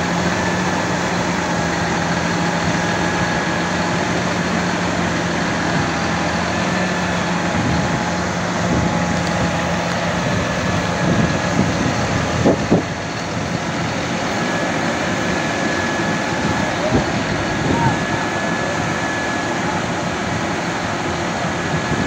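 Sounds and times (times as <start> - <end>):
tractor diesel engine humming: 0.0 - 22.0.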